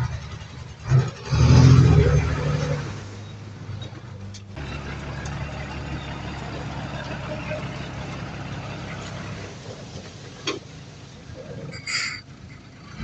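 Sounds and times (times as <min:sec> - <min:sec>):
heavy diesel machinery engine: 0:00.0 - 0:13.0.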